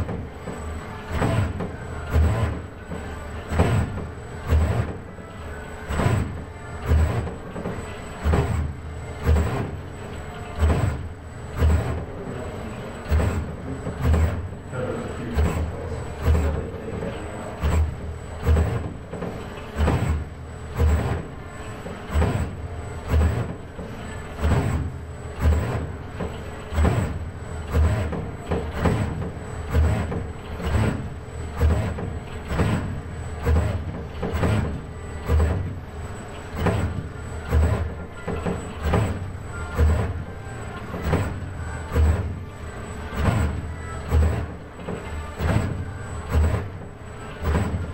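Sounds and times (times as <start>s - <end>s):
robot arm motors surging: 0.0s - 47.9s.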